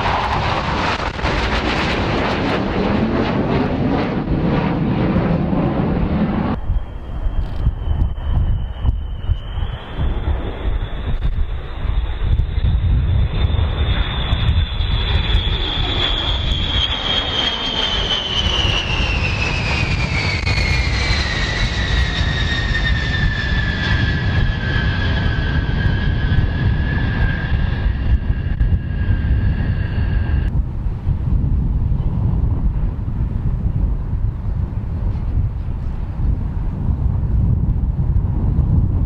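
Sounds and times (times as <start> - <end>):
airplane engine whine: 0.0 - 39.0.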